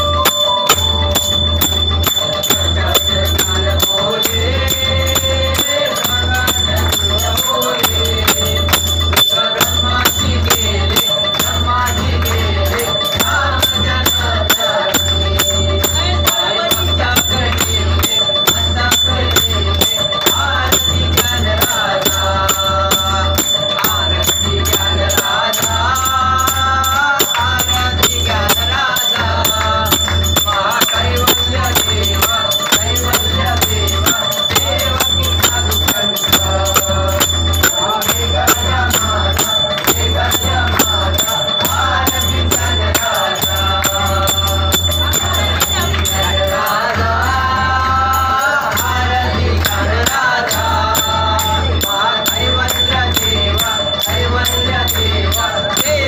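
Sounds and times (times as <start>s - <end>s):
devotional song singing: 0.0s - 56.0s
hands clapping in time: 3.9s - 56.0s.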